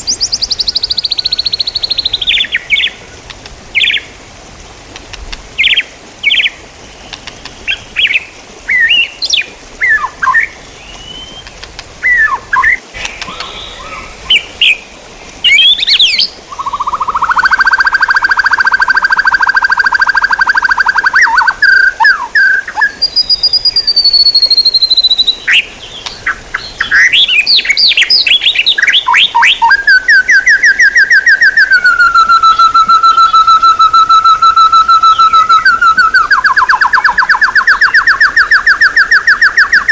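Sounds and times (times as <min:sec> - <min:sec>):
songbird singing: 0:00.0 - 0:04.2, 0:04.8 - 0:39.9.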